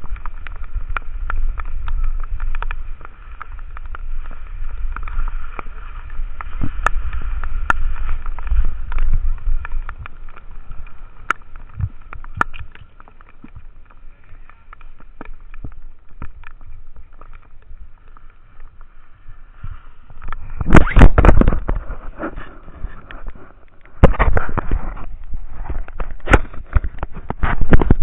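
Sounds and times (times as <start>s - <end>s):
skis sliding over wet snow: 0.0s - 28.0s
wind rushing across microphone: 0.0s - 28.0s.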